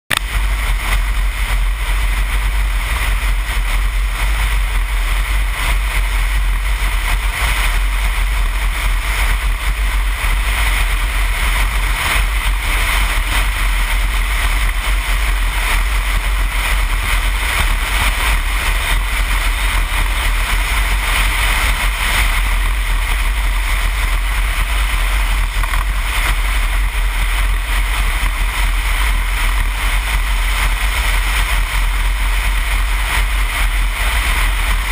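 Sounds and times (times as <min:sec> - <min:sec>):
motorcycle engine running: 0:00.1 - 0:34.9
wind noise on microphone: 0:00.1 - 0:34.9.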